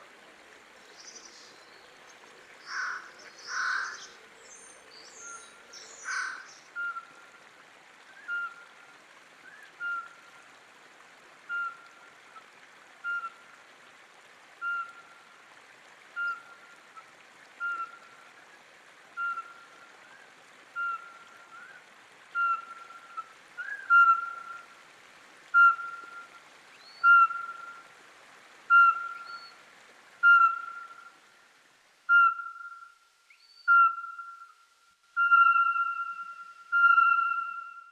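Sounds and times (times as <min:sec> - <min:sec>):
river water flowing: 0:00.0 - 0:37.9.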